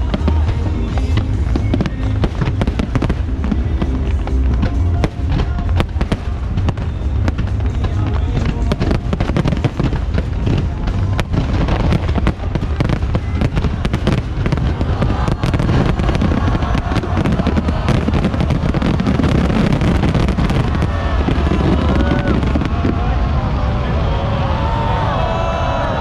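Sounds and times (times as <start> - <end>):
fireworks bangs and crackles: 0.0 - 25.2
low rumble: 0.0 - 26.0.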